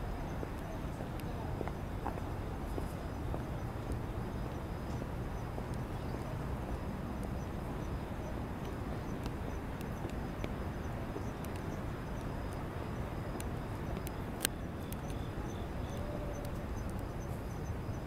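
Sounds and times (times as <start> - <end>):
distant city rumble: 0.0 - 18.0.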